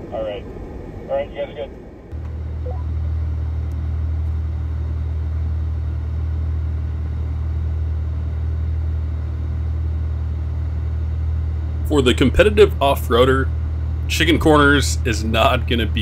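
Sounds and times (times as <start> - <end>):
vehicle driving off-road rumble: 0.0 - 16.0.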